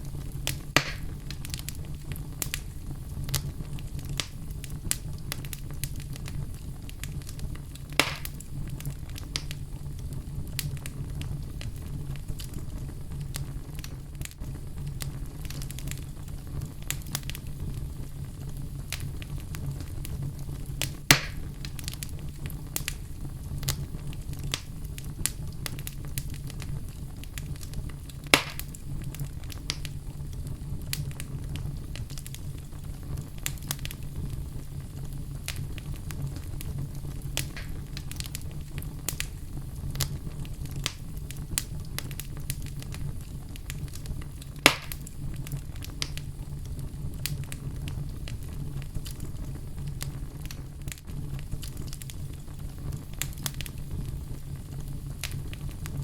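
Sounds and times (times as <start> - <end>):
low rumble of flames: 0.0 - 56.0
sharp fire pops: 0.0 - 56.0
wood fire crackling: 0.0 - 56.0.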